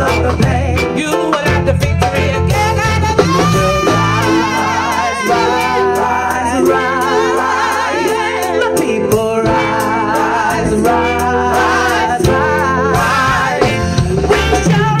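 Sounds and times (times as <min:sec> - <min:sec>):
bass: 0:00.0 - 0:15.0
reggae band backing: 0:00.0 - 0:15.0
vocal group singing in harmony: 0:00.0 - 0:15.0.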